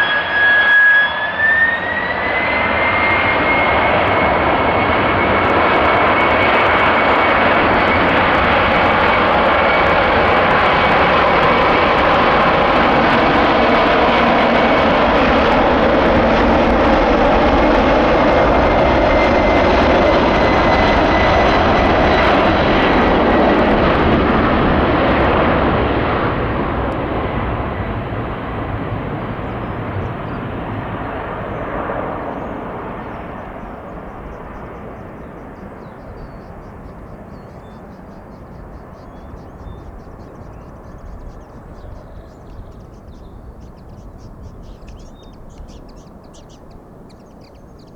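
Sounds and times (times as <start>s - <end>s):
jet engine whine: 0.0s - 47.9s
jet engines roaring: 0.0s - 47.9s.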